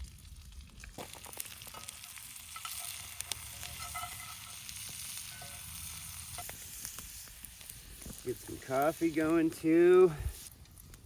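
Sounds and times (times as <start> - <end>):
sharp pops of frying: 0.0 - 9.6
food sizzling in a skillet: 0.0 - 10.5.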